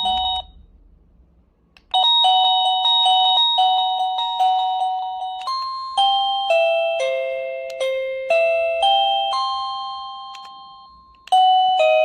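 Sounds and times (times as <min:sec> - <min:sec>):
doorbell chime beeping melody: 0:00.0 - 0:00.6, 0:01.9 - 0:12.0.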